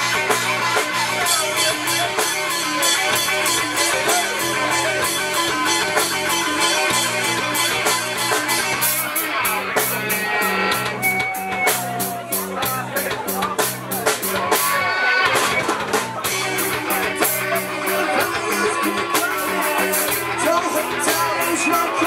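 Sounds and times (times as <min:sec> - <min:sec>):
bass guitar: 0:00.0 - 0:22.0
drum kit steady beat: 0:00.0 - 0:22.0
electric guitars: 0:00.0 - 0:22.0.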